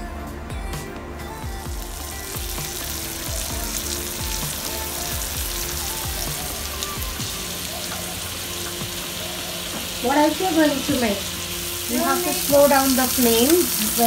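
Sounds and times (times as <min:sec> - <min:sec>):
squid frying in hot oil: 0:01.8 - 0:14.0.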